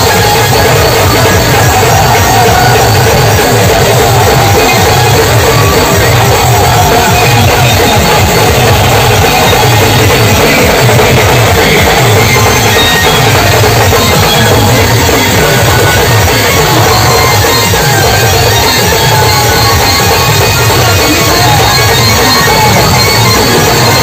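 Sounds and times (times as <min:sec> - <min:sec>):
large barrel drum beat: 0:00.0 - 0:24.0
side drums beaten with sticks: 0:00.0 - 0:24.0.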